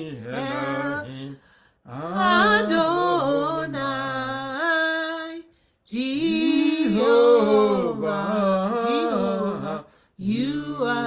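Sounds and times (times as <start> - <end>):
unaccompanied chant singing: 0.0 - 11.0.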